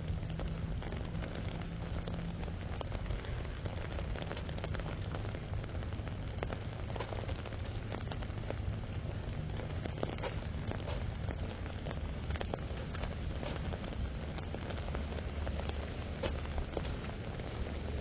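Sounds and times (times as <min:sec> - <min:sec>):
low rumble: 0:00.0 - 0:18.0
rain drops ticking on umbrella: 0:00.0 - 0:18.0
steady rain falling: 0:00.0 - 0:18.0.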